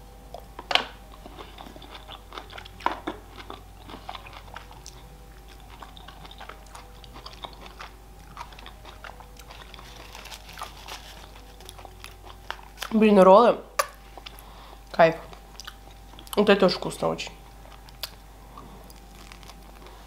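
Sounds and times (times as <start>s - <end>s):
chewing with soft crunching: 1.1s - 13.0s, 14.0s - 16.5s, 17.5s - 20.0s.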